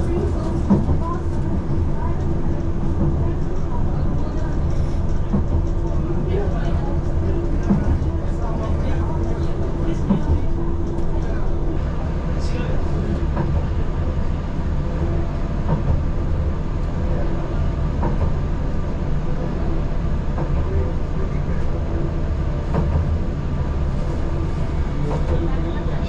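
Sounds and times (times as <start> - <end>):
tram wheels rumbling: 0.0 - 26.0.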